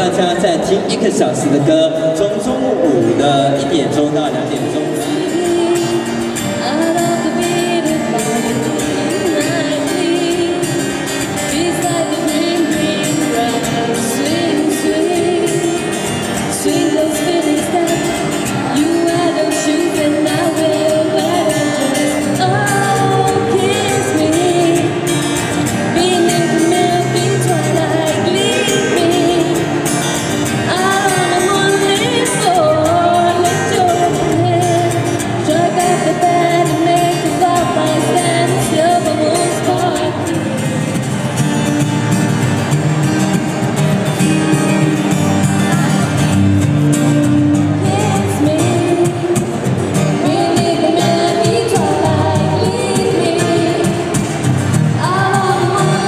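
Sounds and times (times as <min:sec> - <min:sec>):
acoustic guitar: 0:00.0 - 0:56.0
people singing into microphones: 0:01.5 - 0:41.4, 0:45.6 - 0:56.0.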